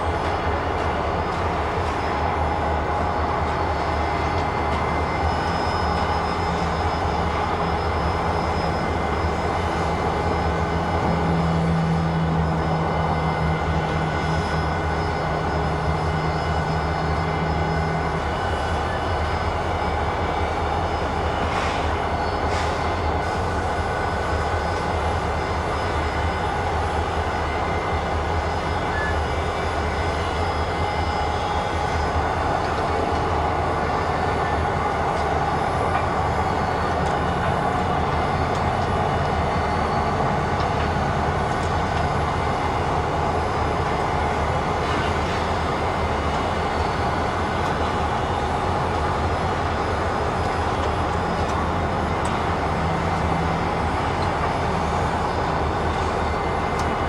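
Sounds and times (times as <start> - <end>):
steam locomotive rumble and hiss: 0.0 - 57.0.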